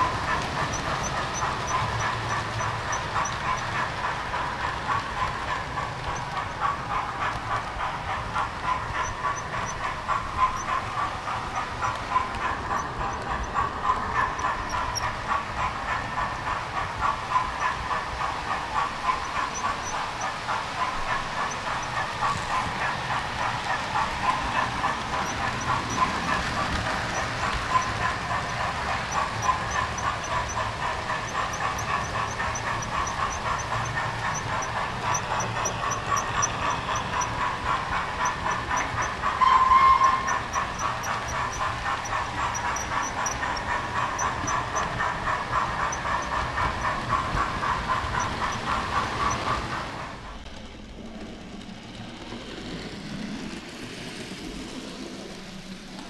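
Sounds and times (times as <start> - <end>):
model train electric whine: 0.0 - 50.7
wheels rattling on rails: 0.0 - 56.0.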